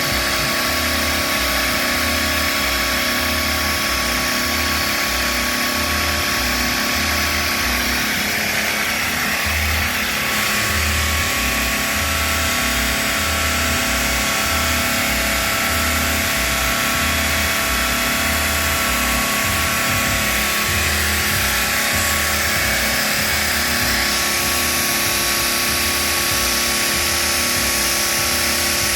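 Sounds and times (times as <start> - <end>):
music with bass beat: 0.0 - 28.9.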